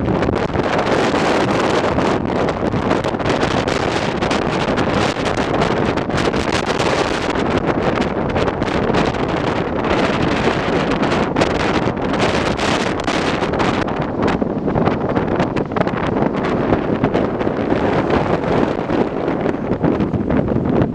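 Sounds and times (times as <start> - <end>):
strong wind buffeting microphone: 0.0 - 20.9.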